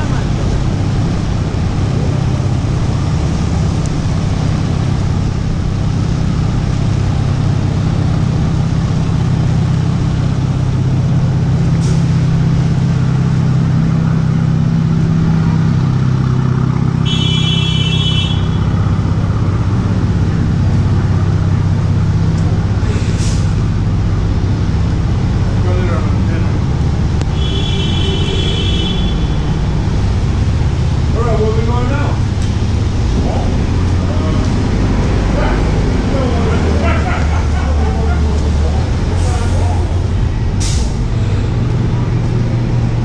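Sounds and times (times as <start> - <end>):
low engine rumble: 0.0 - 43.0
traffic on wet roads: 0.0 - 43.0.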